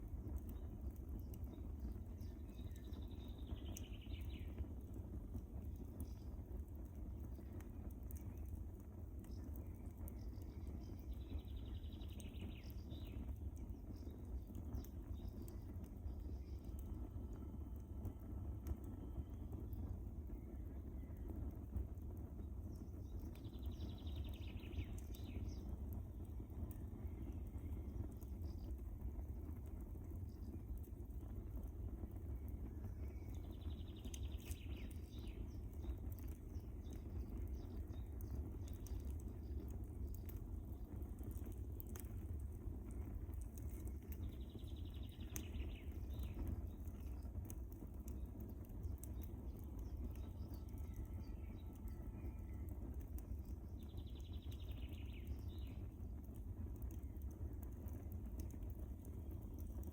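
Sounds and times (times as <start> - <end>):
fire crackling and popping: 0.0 - 59.9
fire rumbling in a fireplace: 0.0 - 59.9.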